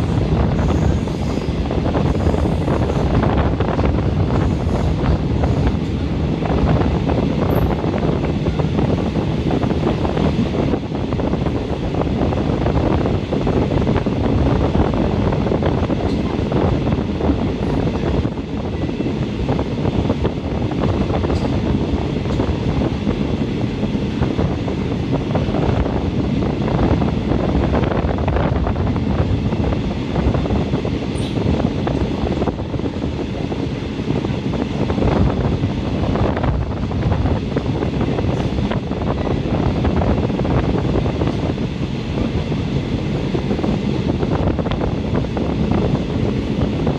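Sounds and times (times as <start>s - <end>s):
train ride noise: 0.0s - 46.9s
wind on microphone: 0.0s - 46.9s.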